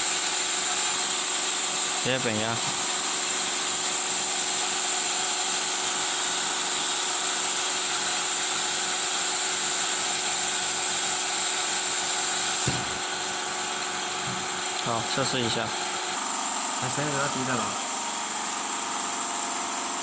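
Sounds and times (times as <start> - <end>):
high-pitched machine whine: 0.0 - 20.0.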